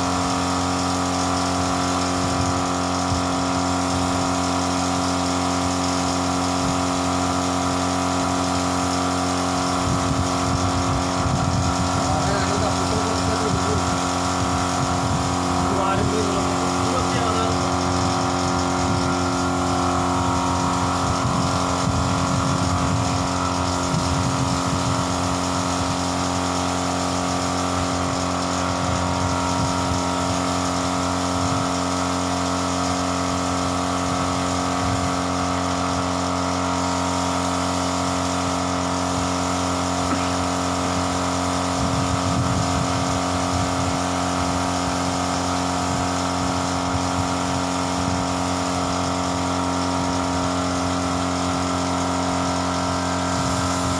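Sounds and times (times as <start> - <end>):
air compressor humming: 0.0 - 53.9.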